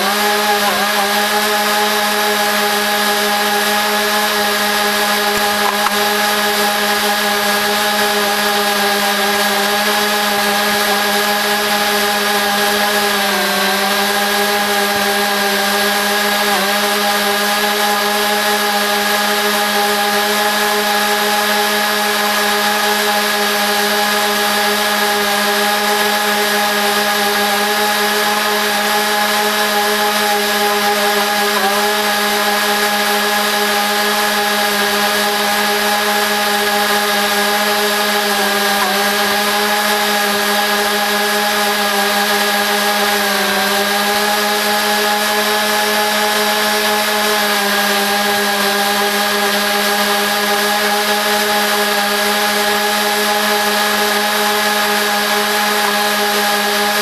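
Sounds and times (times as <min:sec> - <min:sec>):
sped-up lawn mower whine: 0:00.0 - 0:57.0.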